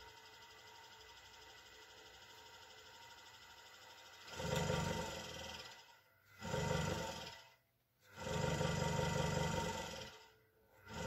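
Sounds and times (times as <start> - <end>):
scroll saw running: 0.0 - 11.0.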